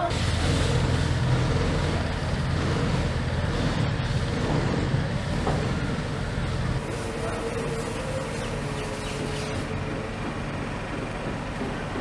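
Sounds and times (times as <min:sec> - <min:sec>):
road noise hiss: 0:00.0 - 0:12.0
vehicle engine rumbling: 0:00.0 - 0:12.0.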